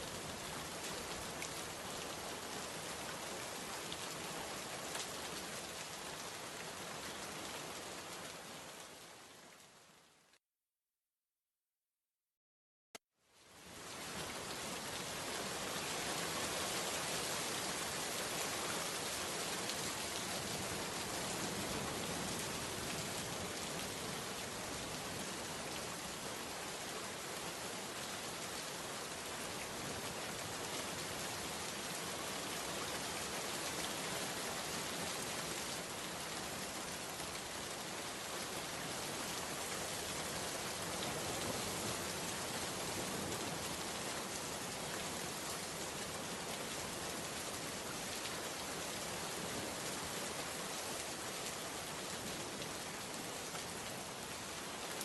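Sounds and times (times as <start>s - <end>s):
steady rain hiss: 0.0s - 10.4s, 13.2s - 55.0s.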